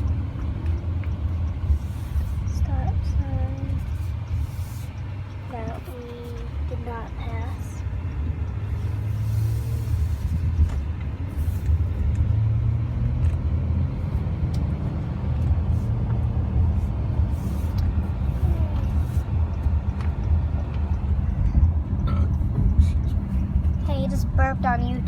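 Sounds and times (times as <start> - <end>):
car driving heard from cabin: 0.0 - 25.0.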